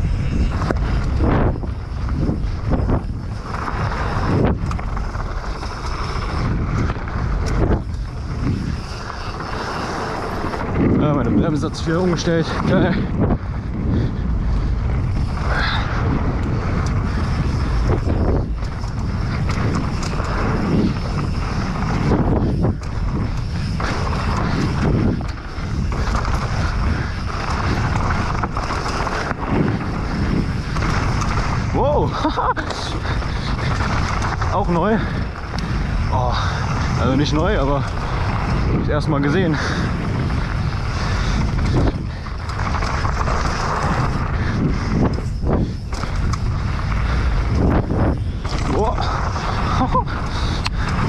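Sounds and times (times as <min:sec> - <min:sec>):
bike rattling: 0:00.0 - 0:51.0
tyres rumbling over dirt trail: 0:00.0 - 0:51.0
wind buffeting microphone: 0:00.0 - 0:51.0.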